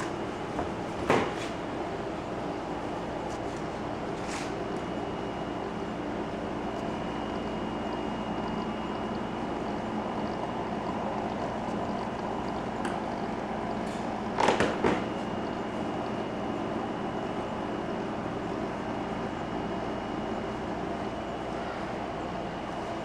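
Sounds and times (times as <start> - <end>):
oil pump humming: 0.0 - 23.0.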